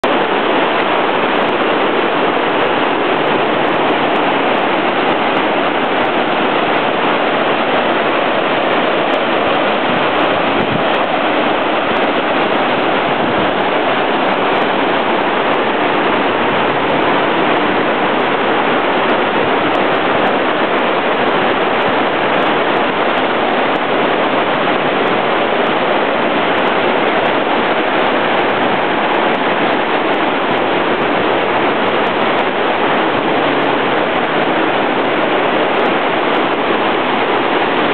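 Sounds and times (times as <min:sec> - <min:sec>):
mountain stream rushing: 0:00.0 - 0:37.9.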